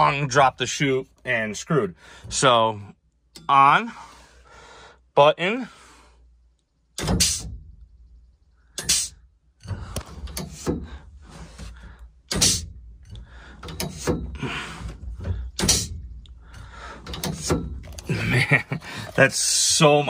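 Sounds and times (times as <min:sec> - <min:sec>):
clunks and rattling: 0:00.0 - 0:04.8, 0:06.8 - 0:20.0.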